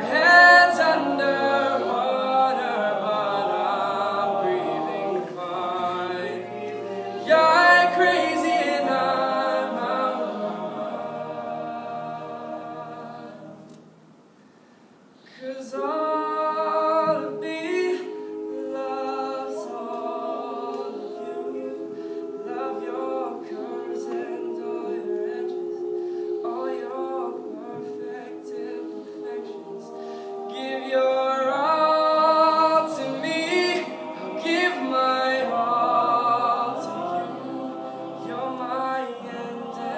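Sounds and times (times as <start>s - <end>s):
male a cappella group singing: 0.0s - 13.7s, 15.3s - 39.9s.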